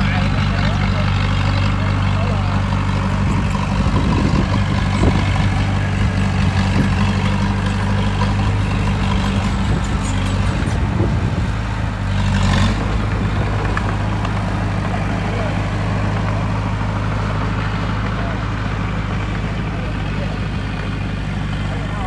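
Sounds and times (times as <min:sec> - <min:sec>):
diesel machinery engine drone: 0:00.0 - 0:22.0.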